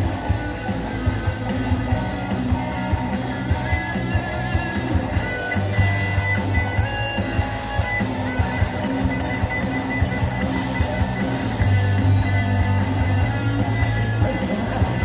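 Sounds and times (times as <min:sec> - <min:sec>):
bass guitar: 0:00.0 - 0:15.0
drum kit beat: 0:00.0 - 0:15.0
electric guitars: 0:00.0 - 0:15.0.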